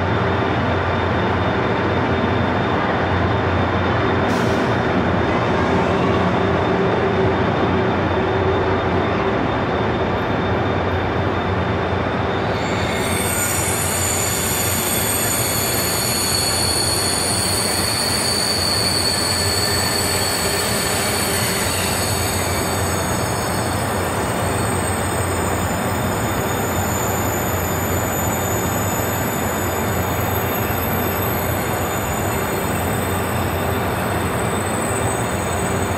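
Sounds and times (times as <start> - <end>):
high-speed train rolling past: 0.0 - 35.9
high steady squealing tones: 5.8 - 35.9.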